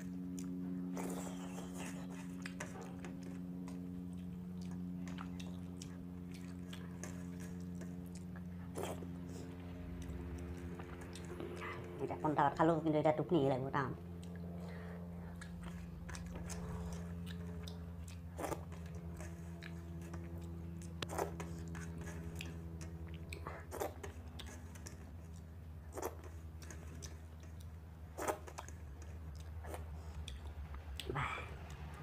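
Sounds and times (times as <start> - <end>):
wet mouth sounds eating: 0.0 - 12.0, 14.1 - 31.8
helicopter drone: 0.0 - 32.0.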